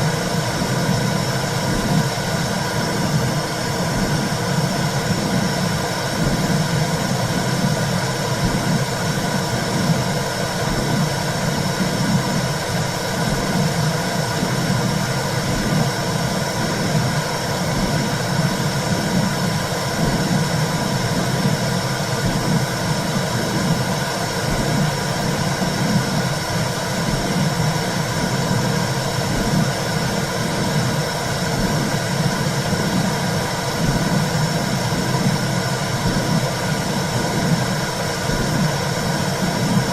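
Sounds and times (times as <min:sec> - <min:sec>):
low rhythmic whooshing: 0:00.0 - 0:39.9.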